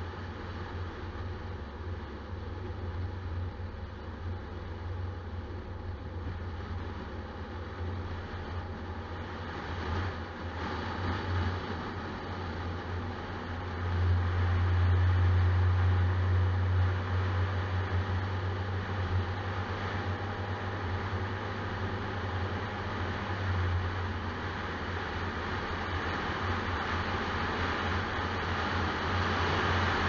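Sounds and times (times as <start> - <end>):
vehicle driving drone: 0.0 - 30.0.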